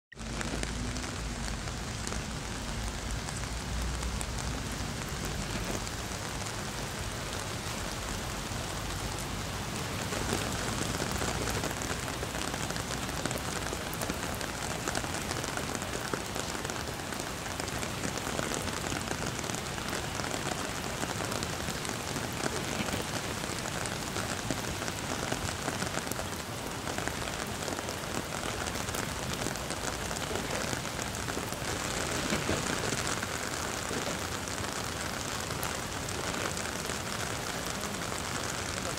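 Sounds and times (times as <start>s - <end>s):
steady rain on trees: 0.1s - 38.9s.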